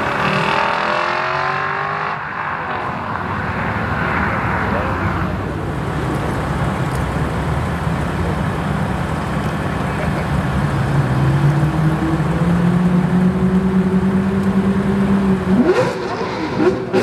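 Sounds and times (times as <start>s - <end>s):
car engines at low revs: 0.0s - 17.0s.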